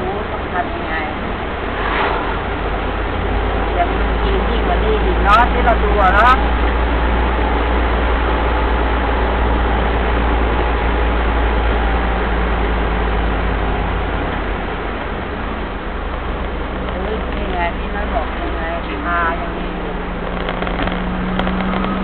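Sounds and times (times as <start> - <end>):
diesel engine rumbling: 0.0 - 22.0
road noise: 0.0 - 22.0.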